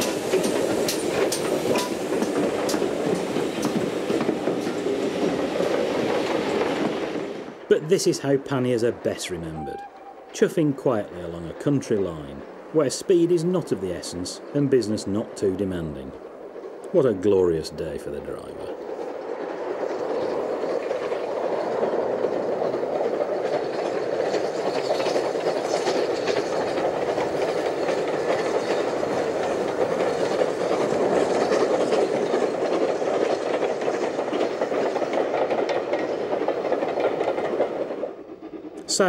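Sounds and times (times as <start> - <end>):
train wheels rumbling on rail: 0.0 - 39.0
wheels clicking over rail joints: 0.0 - 39.0.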